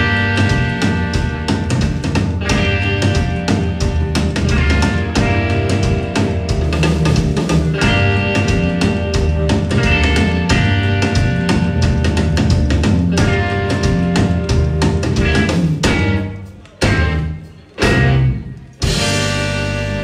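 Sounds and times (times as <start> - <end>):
band playing: 0.0 - 20.0
full-band hits ringing out: 0.0 - 20.0.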